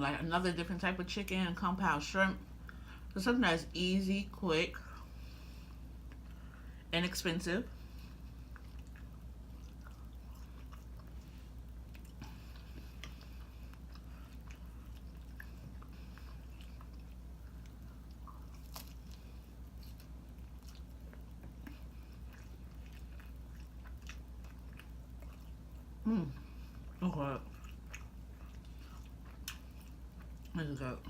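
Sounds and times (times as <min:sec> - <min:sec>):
steady low hum: 0:00.0 - 0:31.0
close-up chewing: 0:05.0 - 0:06.8, 0:07.7 - 0:31.0.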